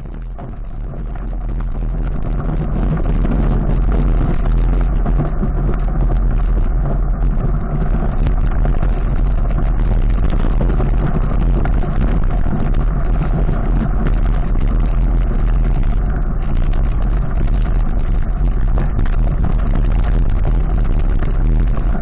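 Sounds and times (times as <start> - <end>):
wind and road noise on microphone: 0.0 - 22.0.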